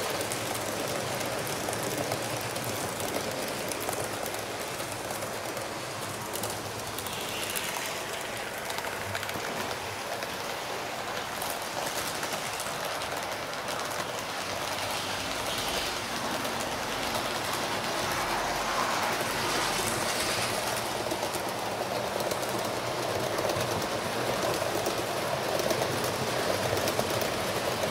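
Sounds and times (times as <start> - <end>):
model train rolling on track: 0.0 - 27.9
wheels clicking on rails: 0.0 - 27.9.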